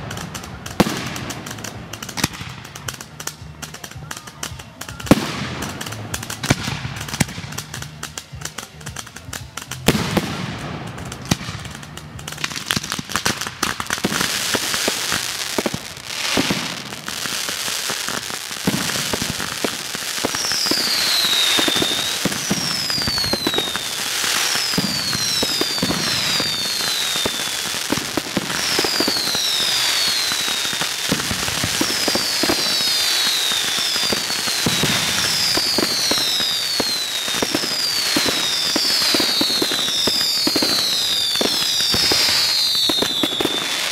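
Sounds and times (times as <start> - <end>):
fireworks crackling and popping: 0.0 - 43.9
whistling fireworks: 0.0 - 43.9.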